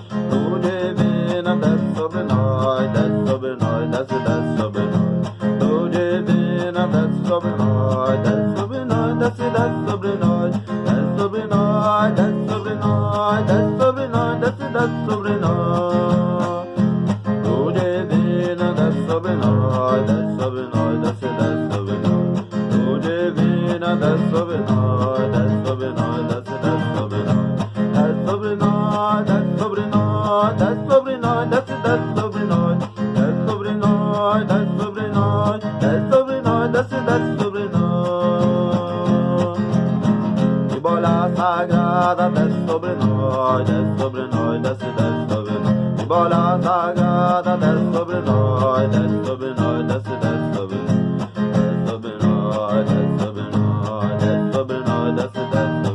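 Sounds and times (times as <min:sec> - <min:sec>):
person singing: 0:00.0 - 0:55.9
strummed acoustic guitar: 0:00.0 - 0:55.9.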